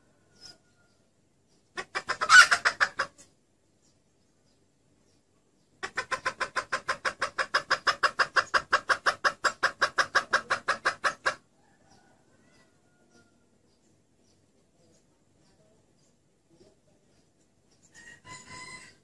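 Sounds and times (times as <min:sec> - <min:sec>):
hen clucking rapidly: 0:01.4 - 0:04.0, 0:04.6 - 0:19.0.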